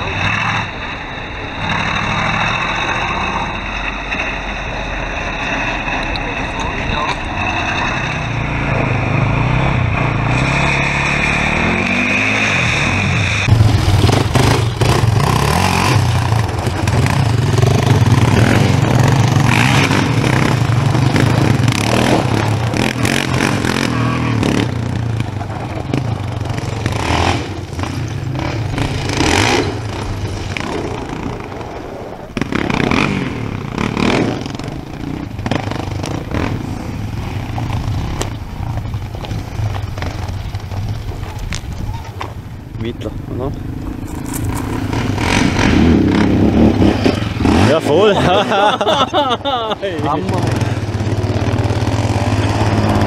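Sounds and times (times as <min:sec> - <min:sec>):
quad bike engines revving: 0:00.0 - 0:53.0.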